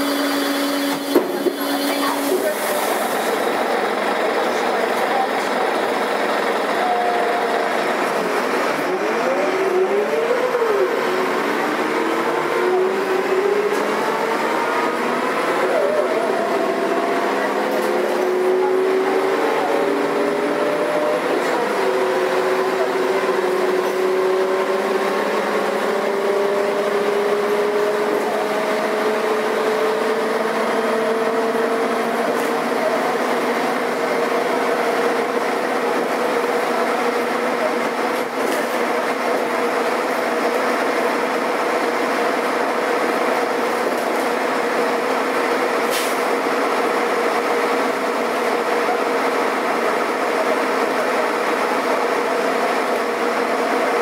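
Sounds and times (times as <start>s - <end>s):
bus engine and drivetrain hum: 0.0s - 54.0s.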